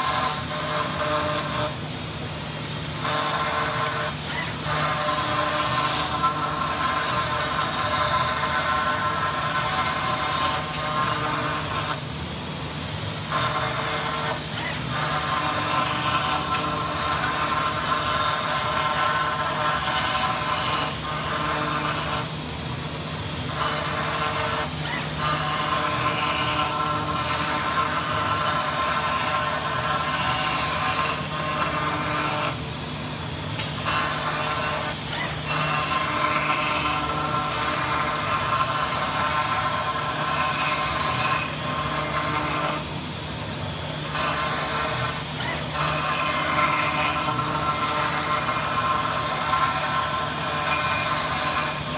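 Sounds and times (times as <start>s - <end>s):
machine cutting metal: 0.0s - 51.9s.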